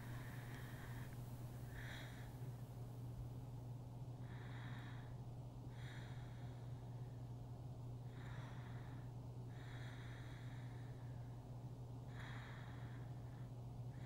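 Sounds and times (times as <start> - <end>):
person breathing slowly in sleep: 0.0 - 2.9, 4.2 - 7.4, 8.0 - 14.0
low electrical hum: 0.0 - 14.0.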